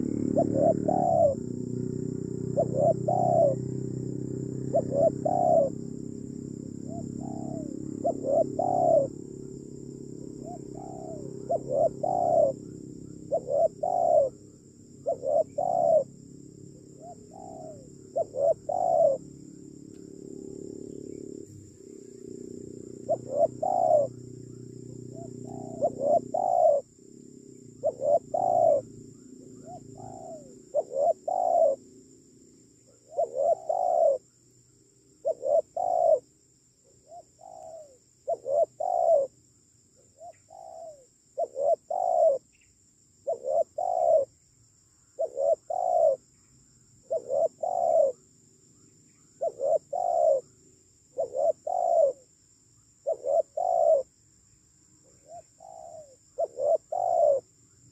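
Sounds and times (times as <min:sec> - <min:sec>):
dove cooing: 0:00.0 - 0:34.3, 0:35.2 - 0:39.4, 0:40.1 - 0:44.4, 0:45.1 - 0:46.4, 0:47.0 - 0:48.3, 0:49.1 - 0:52.4, 0:53.0 - 0:54.2, 0:55.0 - 0:57.9.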